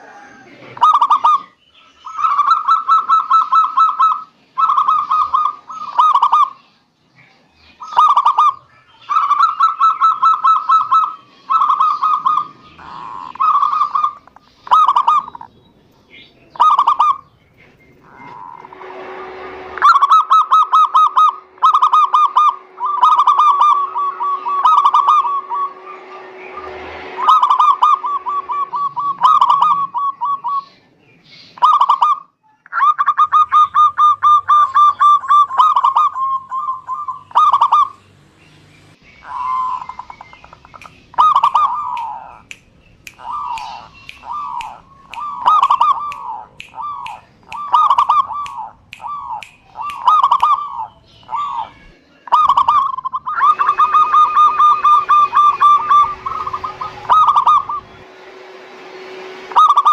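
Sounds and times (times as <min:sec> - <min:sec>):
dove trilled cooing: 0:00.0 - 0:06.6, 0:07.8 - 0:15.5, 0:16.5 - 0:17.3, 0:18.0 - 0:30.7, 0:31.6 - 0:38.0, 0:39.2 - 0:42.5, 0:43.2 - 0:57.9, 0:59.5 - 0:59.9
faint steady hum: 0:00.0 - 0:59.9.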